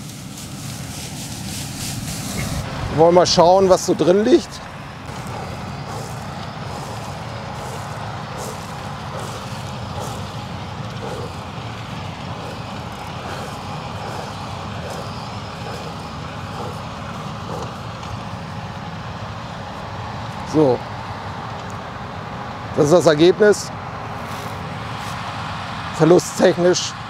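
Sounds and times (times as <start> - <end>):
combine harvester engine droning: 0.0 - 27.0.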